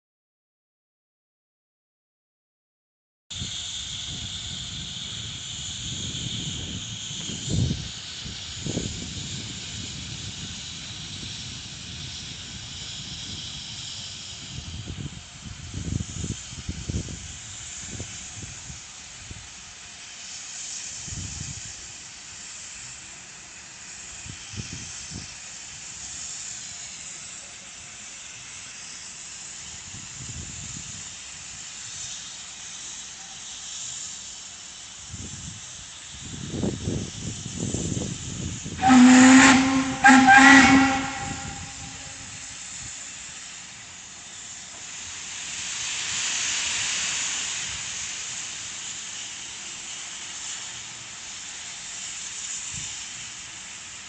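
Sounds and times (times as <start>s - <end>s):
locomotive hissing steam: 3.3s - 54.0s.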